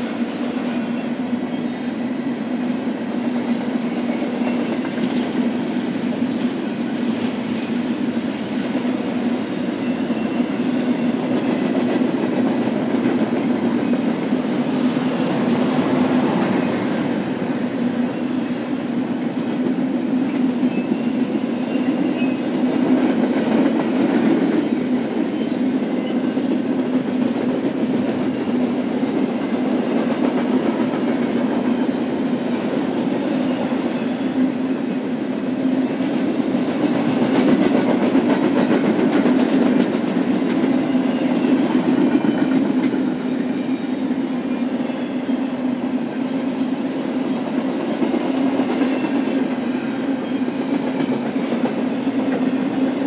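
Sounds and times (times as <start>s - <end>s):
train clickety-clack: 0.0s - 53.0s
train wheels rumbling on rails: 0.0s - 53.0s.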